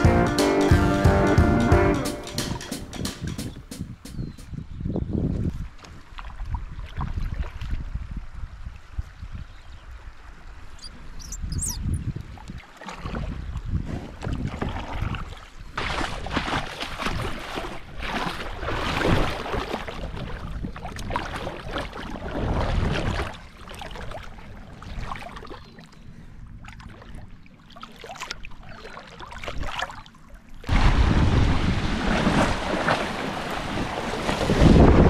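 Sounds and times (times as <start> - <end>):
water splashing around kayak: 5.5 - 35.0.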